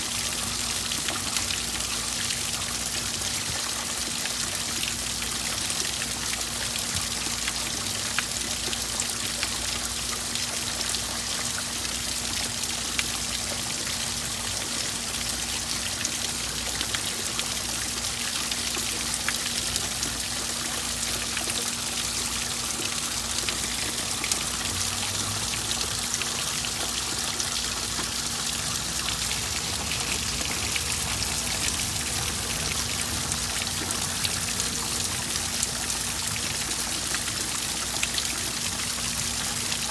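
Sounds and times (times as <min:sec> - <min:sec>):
raindrops on water: 0:00.0 - 0:39.9
water pouring into pond: 0:00.0 - 0:39.9.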